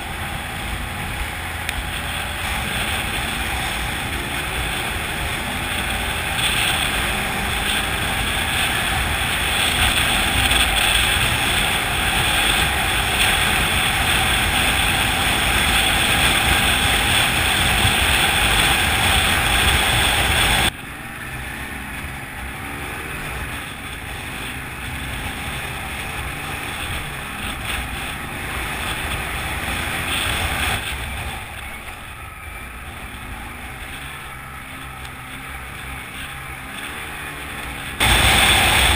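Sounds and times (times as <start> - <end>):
atv engine running: 0.0 - 38.9
wind noise on microphone: 0.0 - 38.9.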